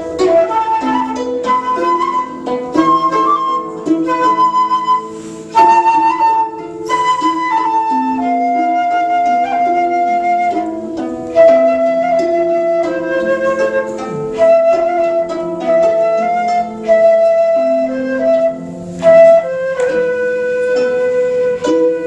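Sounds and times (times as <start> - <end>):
flute playing long notes: 0.0 - 22.0
plucked zither: 0.0 - 22.0.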